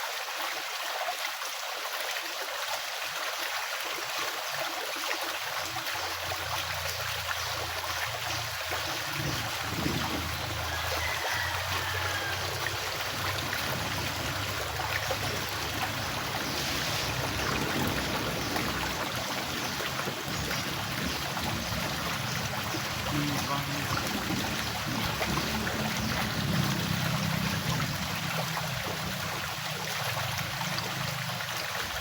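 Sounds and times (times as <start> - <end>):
stream water flowing: 0.0 - 32.0.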